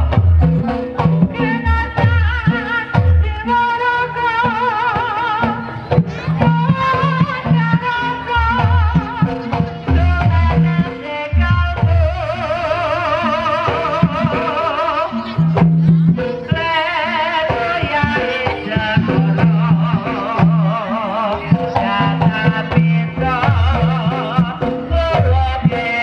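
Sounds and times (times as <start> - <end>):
hand-drum strokes: 0.0 - 26.0.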